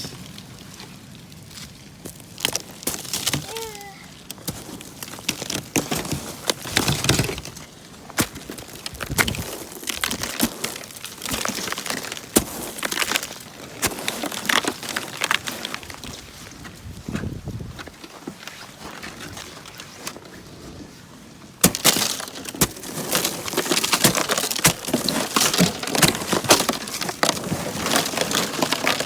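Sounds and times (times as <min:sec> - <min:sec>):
shovel crunching icy snow: 0:00.1 - 0:16.6, 0:21.6 - 0:29.0.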